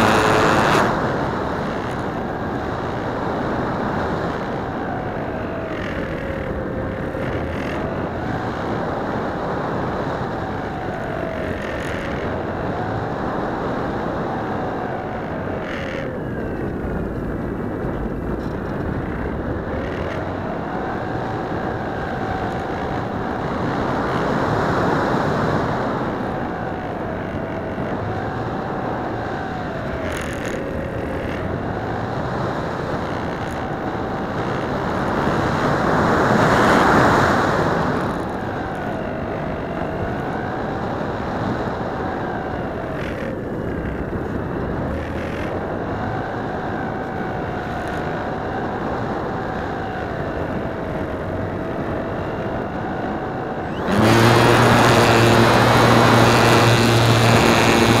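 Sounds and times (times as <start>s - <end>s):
faint wavering whine: 0.0s - 58.0s
wind rushing over camera: 0.0s - 58.0s.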